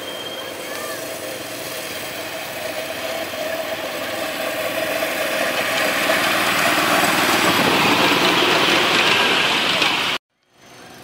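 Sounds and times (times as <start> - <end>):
small locomotive engine running: 0.0 - 11.0.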